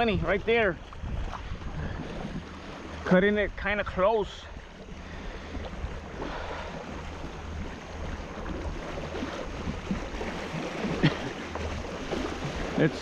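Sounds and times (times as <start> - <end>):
water lapping: 0.0 - 13.0
wind buffeting microphone: 0.0 - 13.0.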